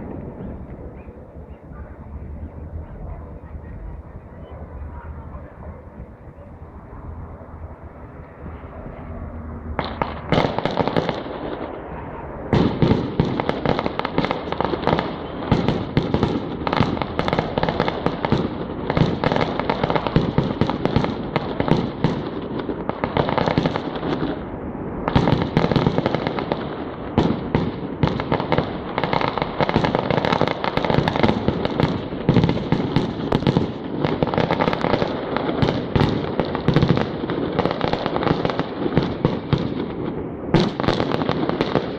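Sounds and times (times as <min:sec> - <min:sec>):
fireworks banging and crackling: 0:00.0 - 0:41.9.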